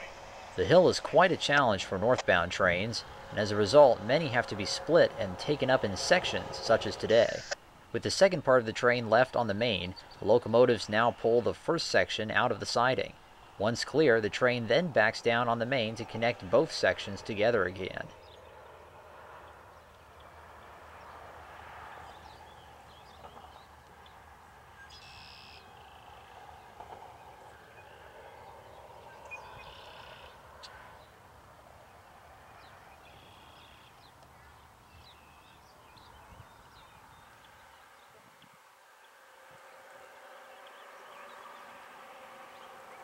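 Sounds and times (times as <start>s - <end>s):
distant locomotive rumble: 0.0s - 38.0s, 38.9s - 43.0s
birds calling: 0.0s - 43.0s.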